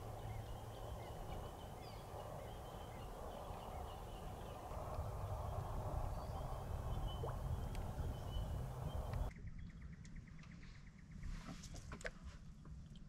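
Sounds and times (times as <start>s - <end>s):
low rumble: 0.0s - 11.3s.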